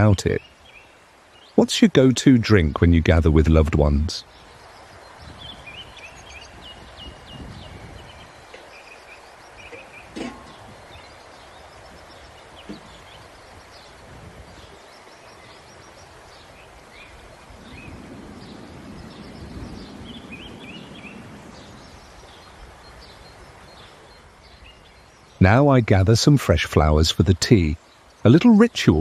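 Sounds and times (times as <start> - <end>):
outdoor background hiss: 0.0 - 29.0
small birds chirping: 0.0 - 29.0.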